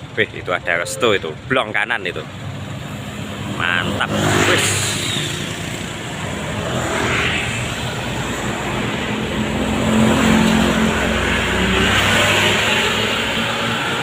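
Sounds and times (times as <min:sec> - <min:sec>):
vehicle passing on highway: 0:02.4 - 0:14.0.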